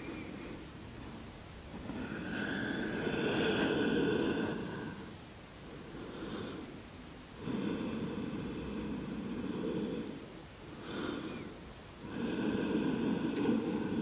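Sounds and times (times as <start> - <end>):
person breathing slowly: 1.8 - 6.8, 7.4 - 14.0.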